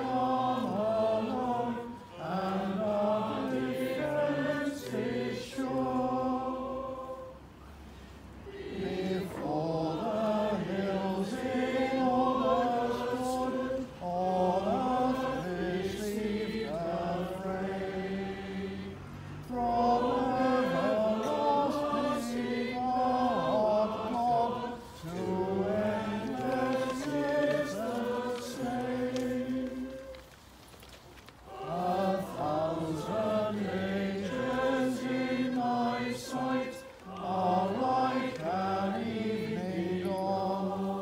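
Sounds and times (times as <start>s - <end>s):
church choir singing: 0.0s - 30.6s, 31.3s - 41.0s.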